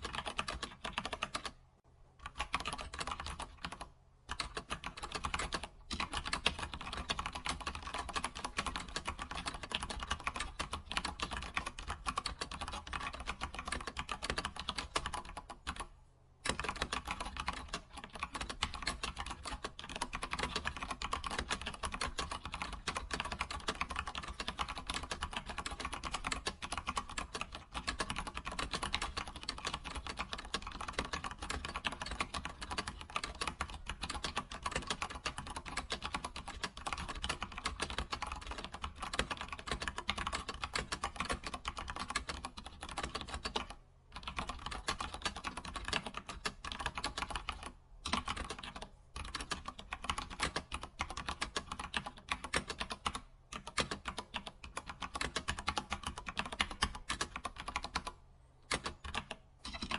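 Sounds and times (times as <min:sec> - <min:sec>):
computer keyboard typing: 0:00.0 - 0:01.6, 0:02.2 - 0:59.9.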